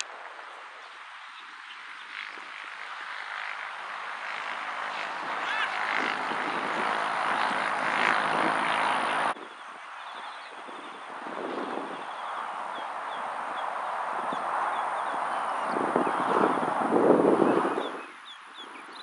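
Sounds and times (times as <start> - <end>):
droning engine-like noise: 0.0 - 18.9.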